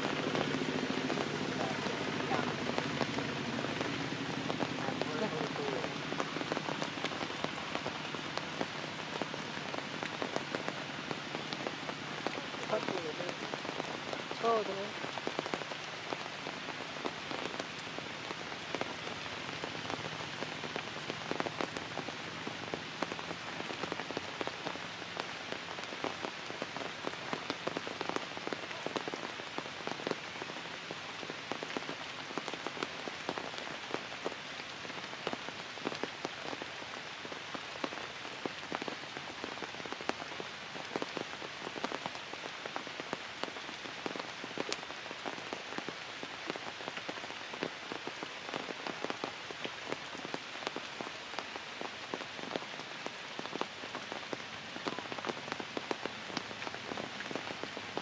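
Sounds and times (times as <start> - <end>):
rain falling on leaves: 0.0 - 58.0
water drips and patters: 0.0 - 58.0.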